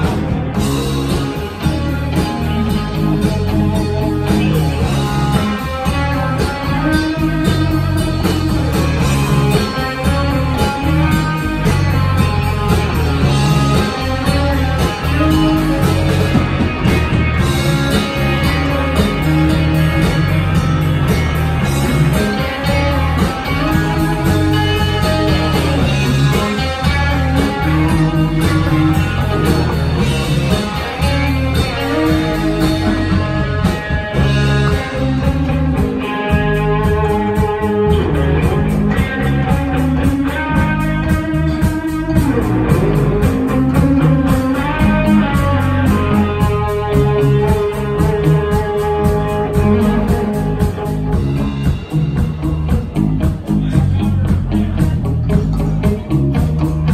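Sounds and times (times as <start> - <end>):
bass guitar: 0.0 - 56.9
drum beat: 0.0 - 56.9
electric guitar lead: 0.0 - 56.9.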